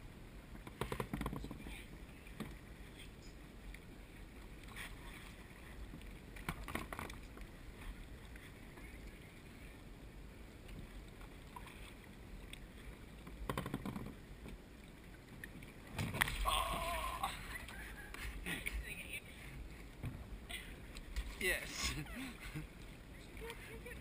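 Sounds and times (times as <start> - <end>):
water lapping around kayak: 0.0 - 24.0.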